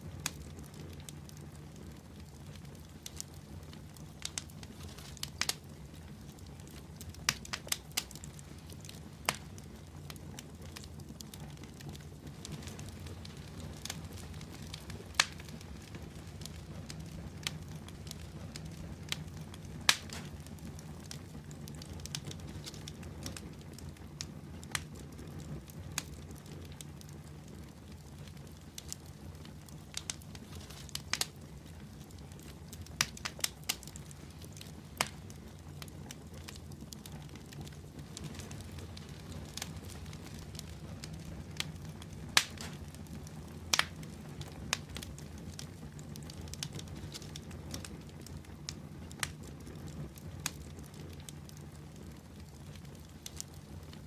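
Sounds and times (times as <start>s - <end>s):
fire crackling and popping: 0.0s - 54.0s
flames rushing: 0.0s - 54.0s.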